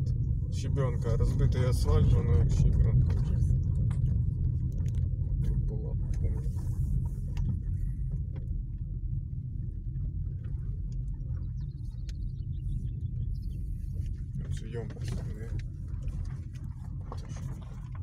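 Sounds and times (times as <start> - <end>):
car tyres rumbling on rough road: 0.0 - 18.0.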